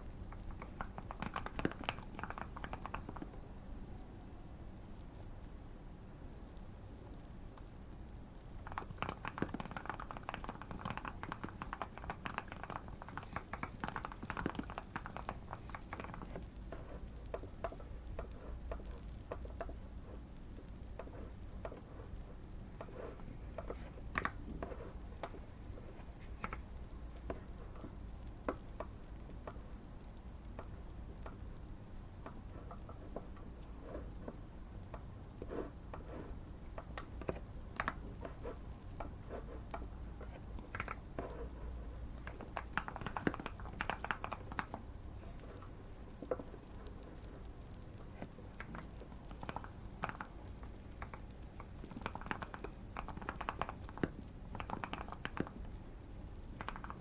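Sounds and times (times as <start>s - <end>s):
mechanical keyboard typing: 0.0s - 3.6s, 8.5s - 41.6s, 42.2s - 55.8s, 56.4s - 57.0s
fireplace crackling: 0.0s - 57.0s.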